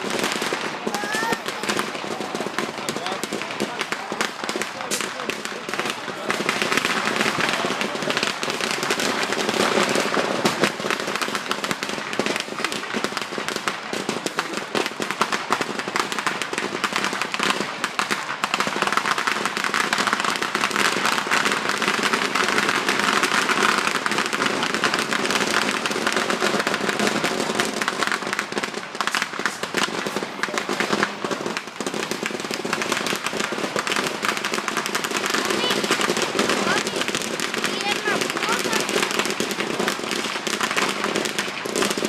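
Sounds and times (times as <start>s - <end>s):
fireworks crackling: 0.0s - 42.0s.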